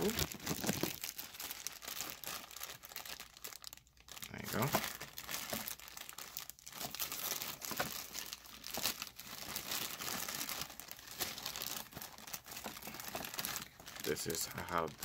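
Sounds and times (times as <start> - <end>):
cord rustling inside bag: 0.0 - 15.0
plastic bag crinkling: 0.0 - 15.0.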